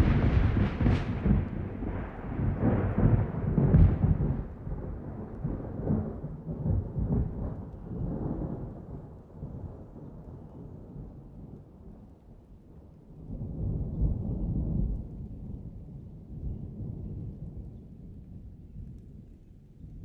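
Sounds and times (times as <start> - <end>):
thunder rolling and rumbling: 0.0 - 12.0, 13.2 - 20.0.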